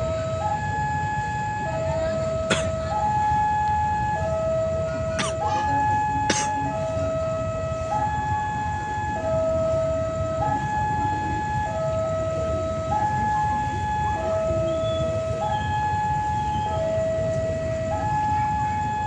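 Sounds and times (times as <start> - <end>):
steady low rumble: 0.0 - 19.0
two-tone electronic alarm: 0.0 - 19.0.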